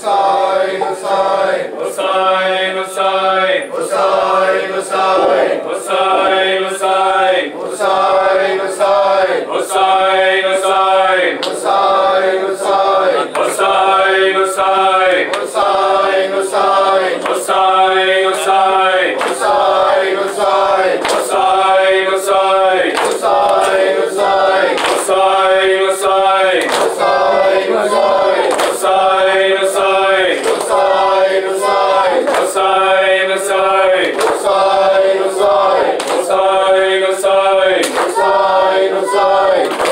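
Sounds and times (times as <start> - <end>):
men chanting in unison: 0.0 - 39.9
rhythmic chest-beating slaps: 0.0 - 39.9.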